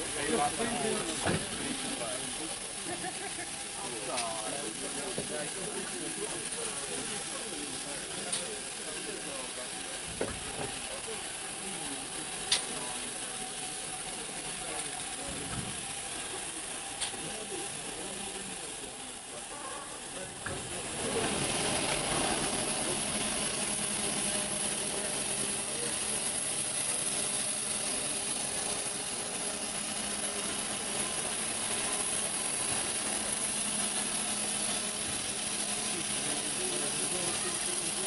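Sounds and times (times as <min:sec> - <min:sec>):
steam locomotive hissing: 0:00.0 - 0:38.0.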